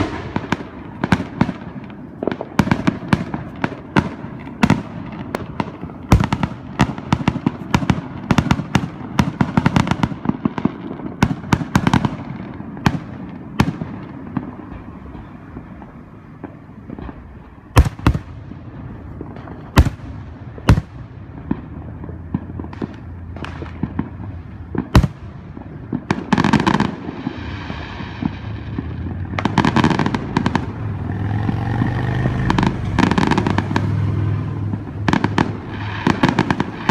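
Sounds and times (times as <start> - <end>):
fireworks bangs and cracks: 0.0 - 36.9.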